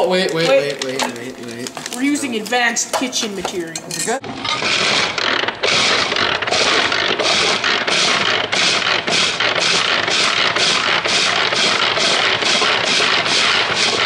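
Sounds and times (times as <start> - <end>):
food chopper crushing chips: 0.0 - 2.9, 4.3 - 14.0.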